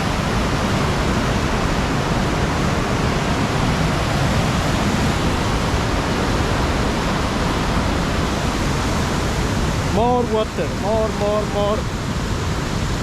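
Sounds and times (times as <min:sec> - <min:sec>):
river in flood roaring: 0:00.0 - 0:13.0.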